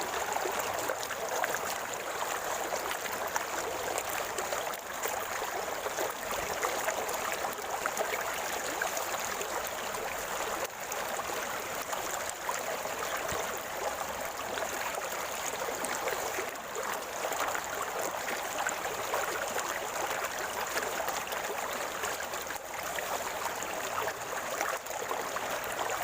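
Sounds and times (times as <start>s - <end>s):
river water gurgling over rocks: 0.0s - 26.0s.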